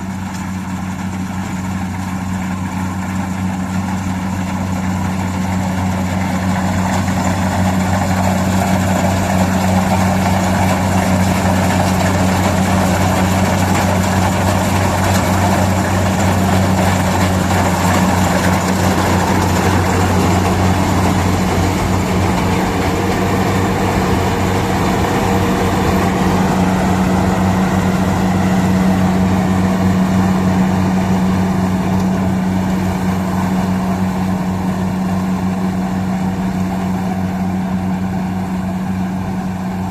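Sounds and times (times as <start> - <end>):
combine harvester engine running: 0.0 - 39.9
working machinery noise: 0.0 - 39.9.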